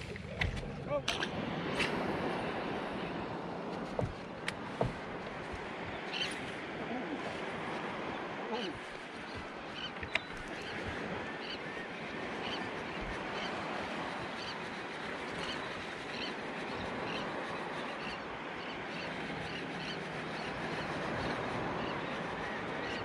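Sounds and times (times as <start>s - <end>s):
water: 0.0s - 23.0s
wind: 0.0s - 23.0s.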